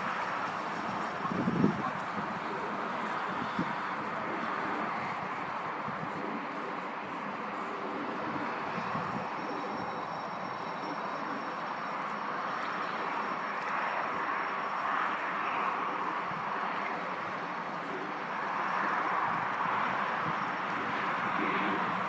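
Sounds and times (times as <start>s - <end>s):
jet engines rushing with whine: 0.0s - 22.0s.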